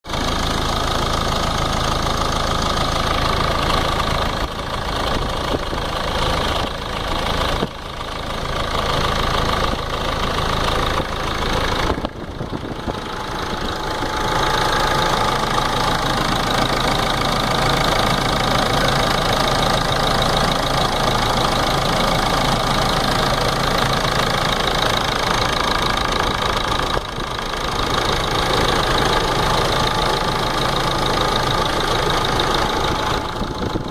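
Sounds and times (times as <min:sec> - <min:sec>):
diesel engine idling: 0:00.0 - 0:33.9
engine knocking: 0:00.0 - 0:33.9.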